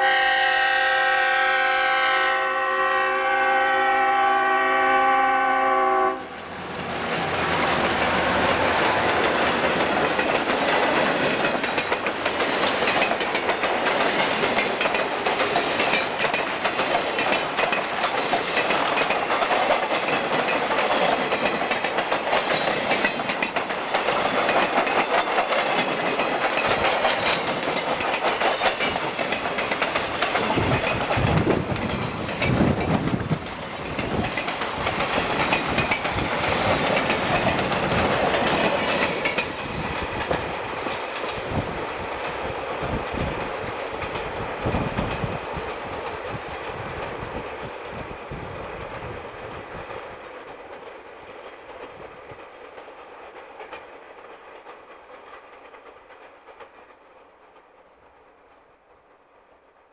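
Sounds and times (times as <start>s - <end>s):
train wheels clacking over rail joints: 6.7s - 48.1s, 48.7s - 57.8s.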